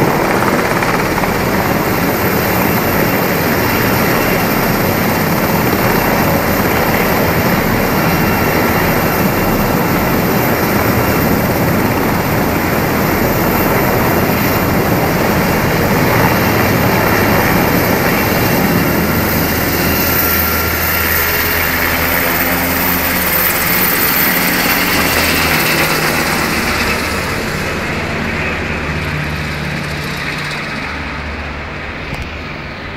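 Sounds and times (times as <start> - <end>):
helicopter rotors and engines: 0.0 - 32.9.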